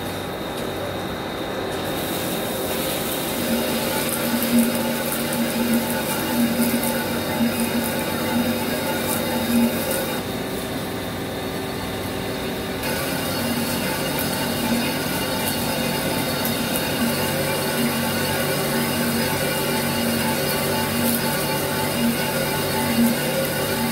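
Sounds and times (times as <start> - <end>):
lathe humming and throbbing: 0.0 - 23.9
coolant spraying hiss: 1.8 - 10.2, 12.8 - 23.9.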